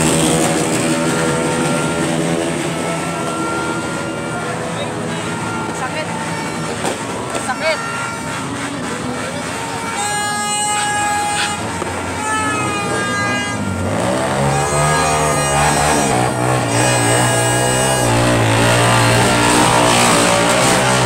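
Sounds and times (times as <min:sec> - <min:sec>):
horn toot: 0:00.0 - 0:21.0
wavering engine drone: 0:00.0 - 0:21.0.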